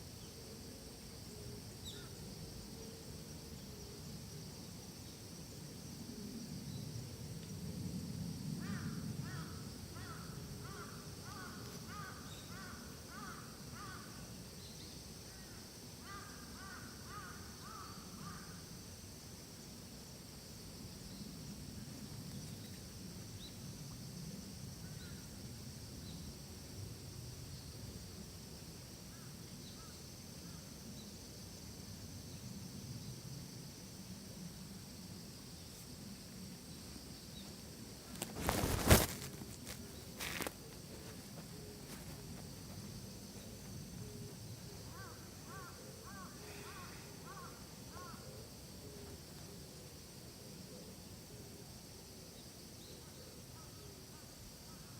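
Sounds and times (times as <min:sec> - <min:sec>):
steady high hiss: 0:00.0 - 0:54.9.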